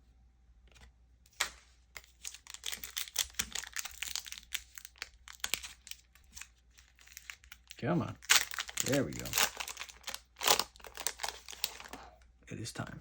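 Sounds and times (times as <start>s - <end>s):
foil wrapper crinkling: 1.4s - 12.2s.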